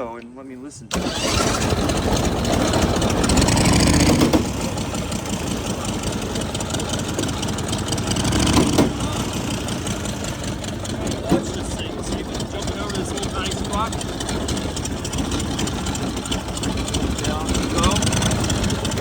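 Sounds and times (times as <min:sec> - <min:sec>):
drive chain noise: 0:00.9 - 0:19.0
small engine running: 0:00.9 - 0:19.0.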